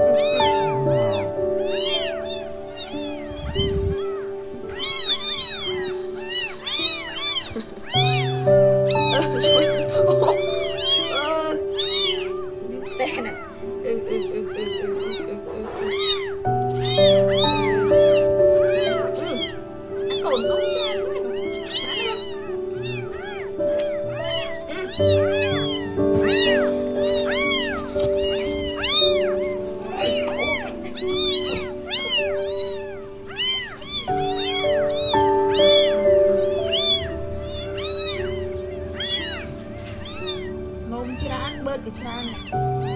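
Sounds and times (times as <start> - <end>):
background music of held notes: 0.0 - 42.9
kittens mewing: 0.0 - 42.9.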